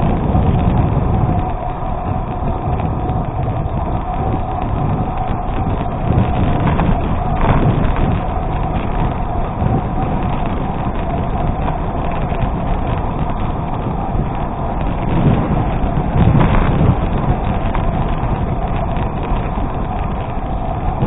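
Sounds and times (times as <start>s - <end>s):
bike rattling: 0.0s - 21.0s
wind on microphone: 0.0s - 21.0s.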